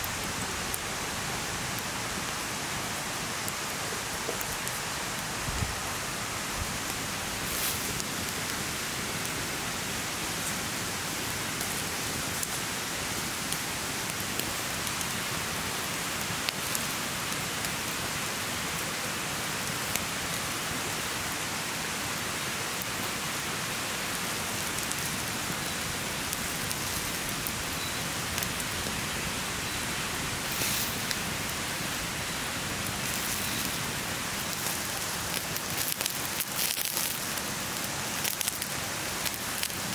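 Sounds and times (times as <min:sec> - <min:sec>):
skewers sizzling over coals: 0:00.0 - 0:39.9
small crackles and pops: 0:03.4 - 0:05.6, 0:06.8 - 0:09.6, 0:10.3 - 0:39.9.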